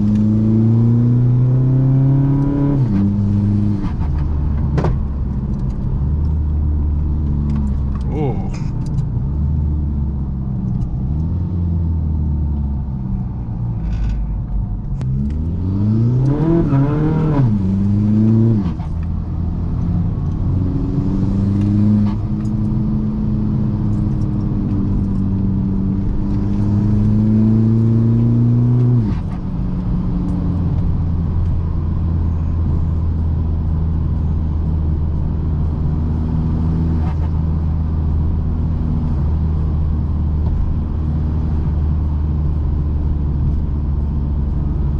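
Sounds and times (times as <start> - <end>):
diesel car engine accelerating: 0.0 - 44.9.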